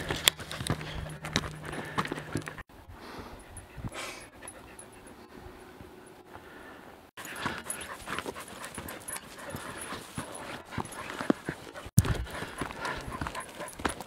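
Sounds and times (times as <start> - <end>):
dogs panting: 0.0 - 6.2, 7.2 - 14.0.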